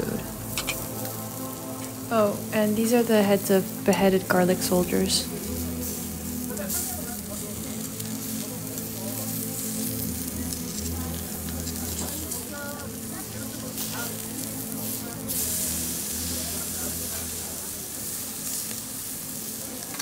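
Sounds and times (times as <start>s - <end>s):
meat sizzling on a grill: 0.0s - 20.0s.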